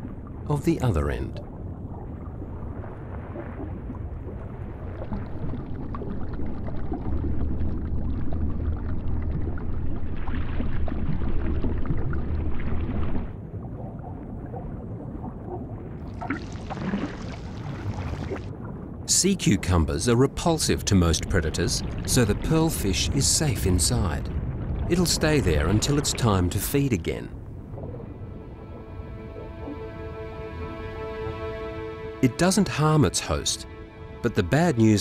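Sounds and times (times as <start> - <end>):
low rumbling underwater ambience: 0.0 - 19.1, 20.9 - 35.0.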